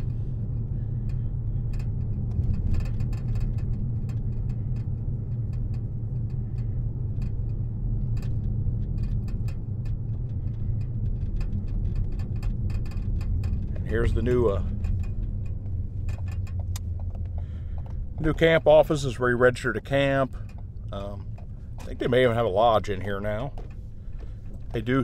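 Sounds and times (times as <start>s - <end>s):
engine and tyre rumble: 0.0s - 25.0s
faint irregular clicks: 0.0s - 25.0s.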